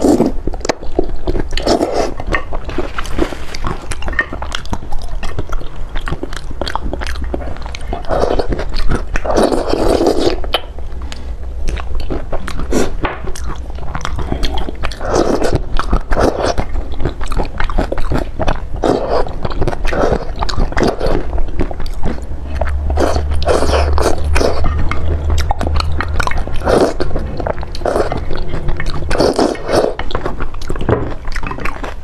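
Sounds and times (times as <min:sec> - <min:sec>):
wet chewing and slurping: 0:00.0 - 0:32.0.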